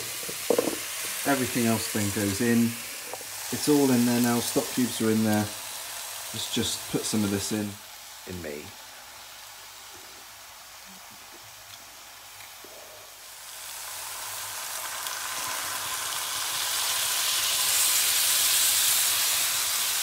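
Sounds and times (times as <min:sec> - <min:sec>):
food hissing and sizzling: 0:00.0 - 0:20.0.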